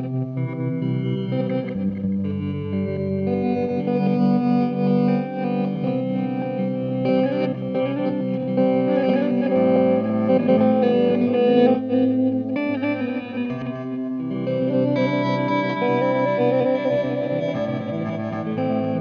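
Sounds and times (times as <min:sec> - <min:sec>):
electric guitar with delay repeats: 0:00.0 - 0:19.0.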